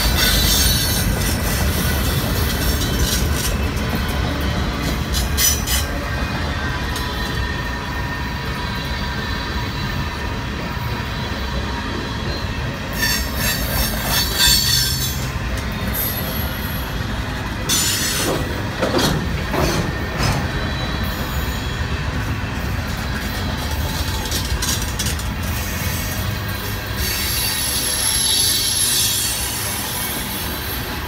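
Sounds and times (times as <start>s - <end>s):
freight train cars rumbling: 0.0s - 31.0s
train wheel squeal: 0.0s - 31.0s.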